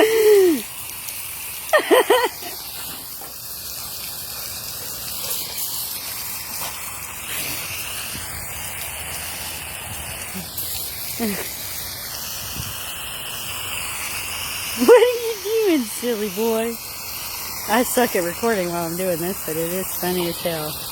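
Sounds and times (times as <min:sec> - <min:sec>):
water spraying from garden hose: 0:00.0 - 0:20.9.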